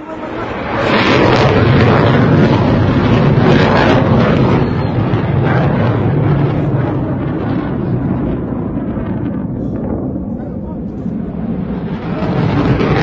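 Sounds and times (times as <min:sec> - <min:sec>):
rocket motor roaring: 0:00.0 - 0:13.0.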